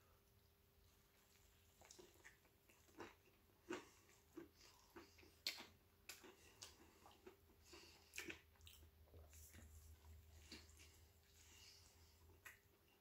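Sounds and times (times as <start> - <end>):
person chewing: 1.0 - 13.0.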